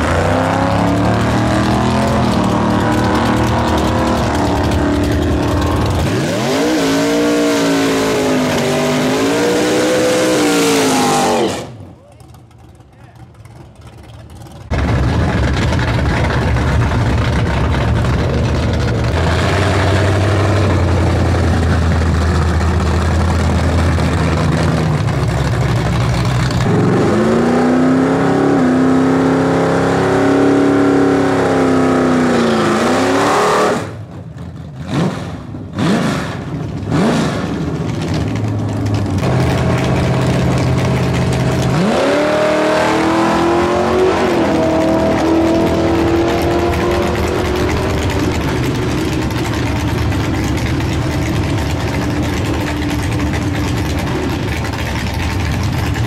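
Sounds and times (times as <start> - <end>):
car engine revving: 0.0 - 11.9, 14.0 - 56.0.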